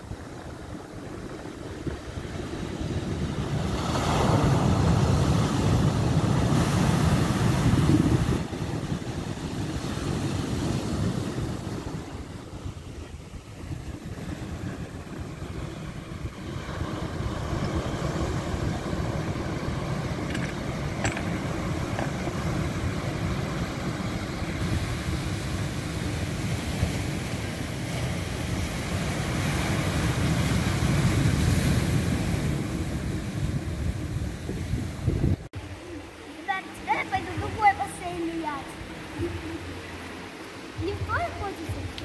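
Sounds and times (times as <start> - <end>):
wind rumbling on microphone: 0.0 - 36.3.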